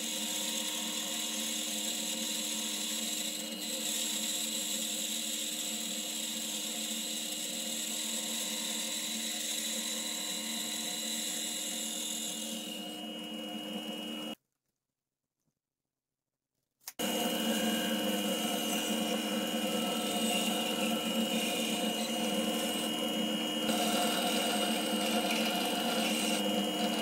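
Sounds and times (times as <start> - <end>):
band saw motor hum: 0.0 - 14.4, 17.0 - 27.0.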